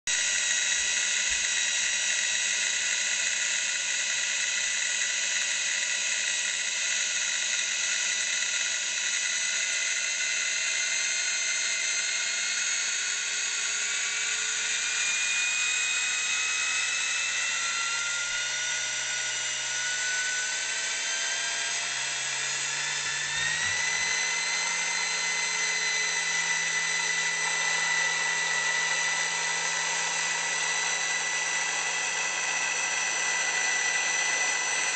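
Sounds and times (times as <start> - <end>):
drill press high whine: 0.1 - 34.9.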